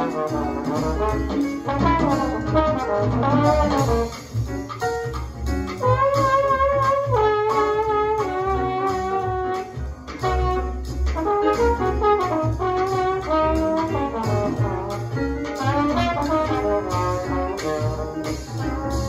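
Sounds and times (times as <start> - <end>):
bass part: 0.0 - 19.0
jazz horn ensemble: 0.0 - 19.0.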